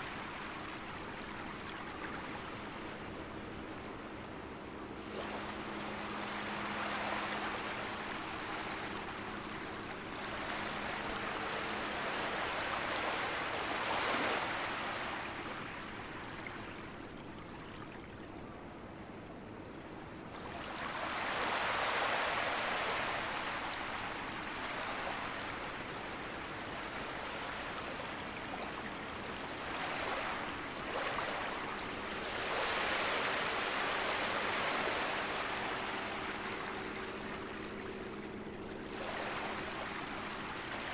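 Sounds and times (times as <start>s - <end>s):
gentle sea waves lapping: 0.0s - 40.9s.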